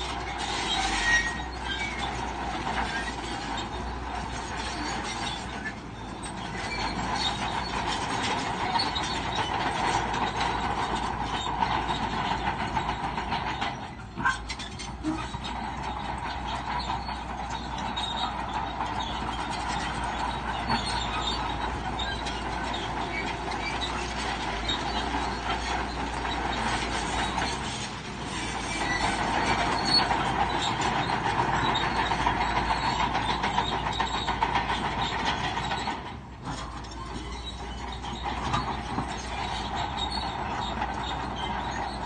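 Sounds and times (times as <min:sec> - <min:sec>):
bulldozer diesel engine under load: 0:00.0 - 0:42.0
steel tracks clanking and squealing: 0:00.0 - 0:42.0.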